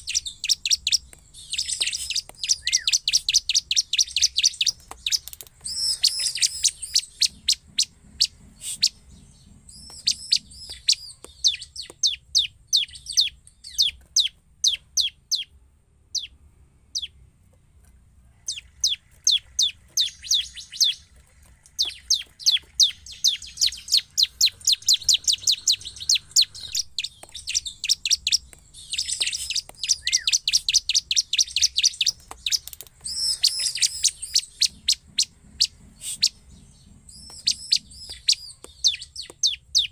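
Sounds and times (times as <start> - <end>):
bird chirping and trilling: 0.0 - 17.3, 18.4 - 39.9.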